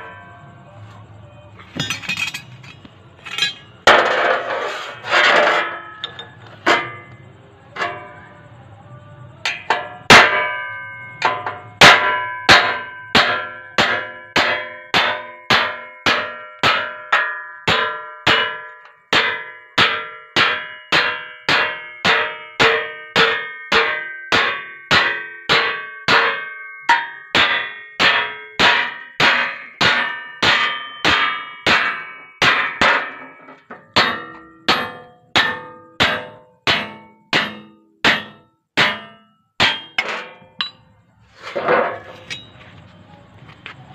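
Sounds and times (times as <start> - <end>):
hammer striking chisel on steel: 1.6 - 8.3, 9.5 - 41.0.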